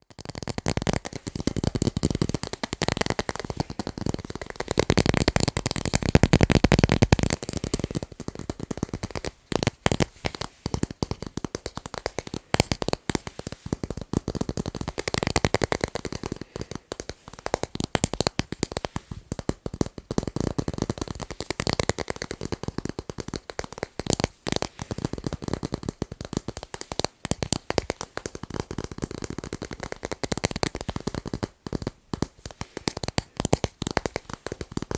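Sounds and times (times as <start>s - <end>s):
fast tapping on tape: 0.0s - 34.9s.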